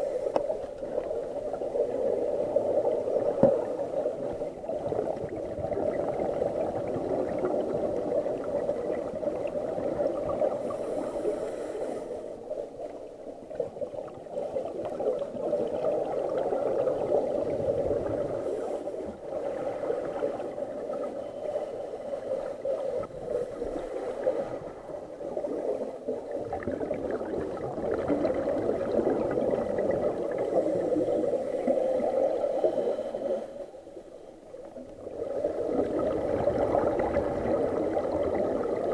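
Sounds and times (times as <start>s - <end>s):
underwater gurgling and bubbles: 0.0s - 38.9s.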